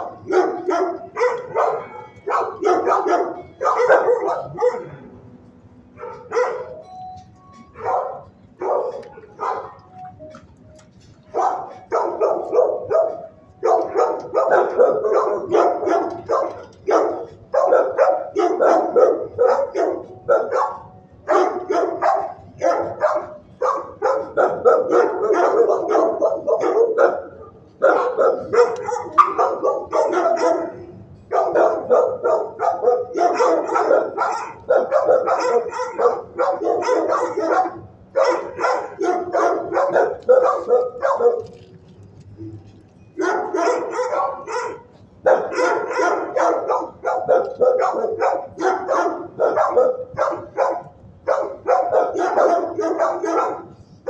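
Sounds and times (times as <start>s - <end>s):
dog barking rapidly: 0.0s - 5.1s, 5.9s - 6.8s, 7.7s - 9.9s, 11.2s - 41.6s, 43.2s - 53.8s.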